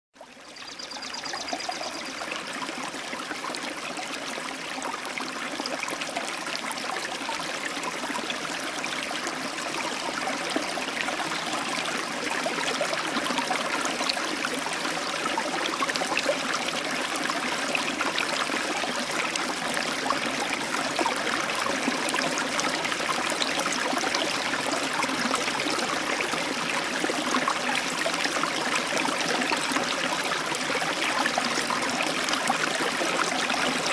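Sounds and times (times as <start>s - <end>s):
aquarium water trickling and bubbling: 0.2s - 33.9s.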